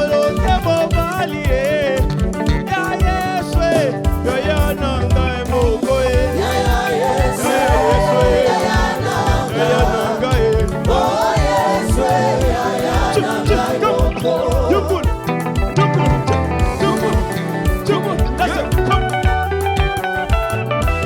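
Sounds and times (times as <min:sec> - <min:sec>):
gospel singing with backing vocals: 0:00.0 - 0:19.4
band with bass and drums: 0:00.0 - 0:21.0.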